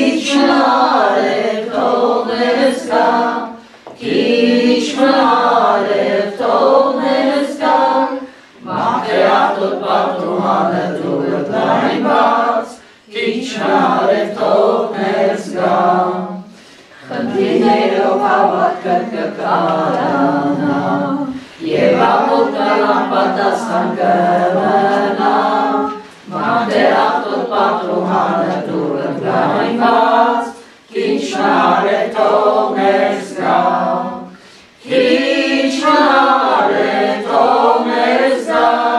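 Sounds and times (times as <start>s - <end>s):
unaccompanied hymn singing: 0.0s - 38.9s.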